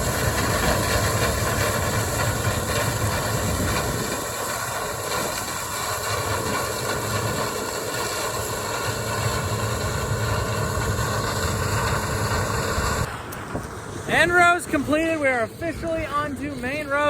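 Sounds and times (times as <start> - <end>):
whining tones: 0.0 - 15.9
combine harvester humming: 0.0 - 17.0.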